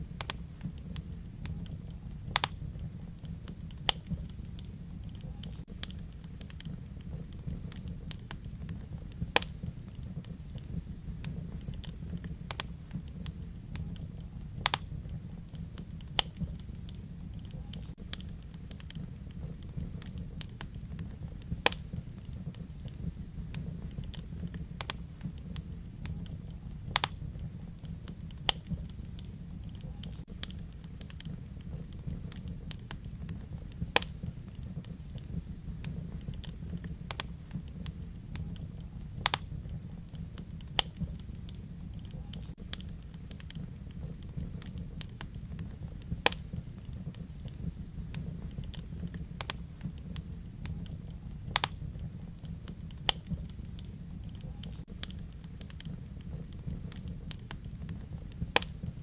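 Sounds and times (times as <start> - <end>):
fire crackles and pops: 0.0 - 59.0
fire rumbling: 0.0 - 59.0.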